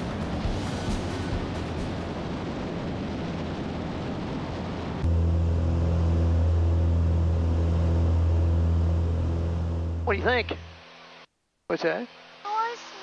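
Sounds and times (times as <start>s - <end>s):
deep propeller drone in cabin: 0.0s - 11.3s
wind and engine rushing: 0.0s - 11.3s.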